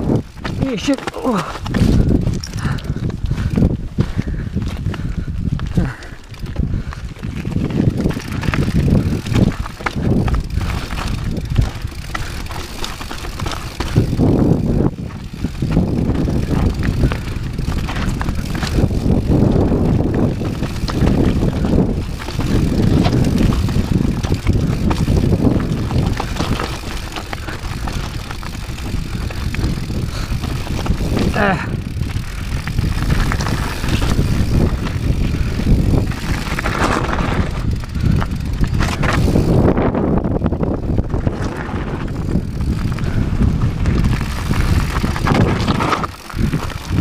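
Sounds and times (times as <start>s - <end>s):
bike rattling and knocking: 0.0s - 47.0s
bike tyres crunching over gravel: 0.0s - 47.0s.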